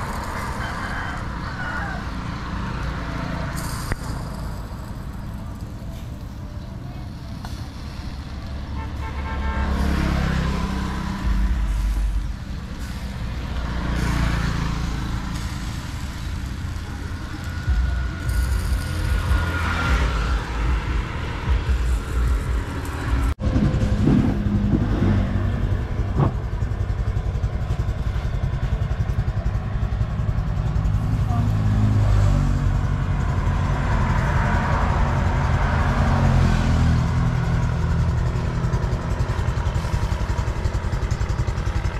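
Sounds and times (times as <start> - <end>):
low traffic rumble: 0.0 - 41.9
vehicles passing by: 0.0 - 41.9.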